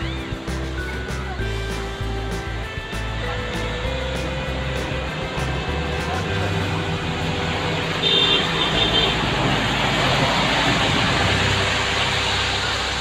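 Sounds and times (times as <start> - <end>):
traffic passing on wet road: 2.5 - 13.0.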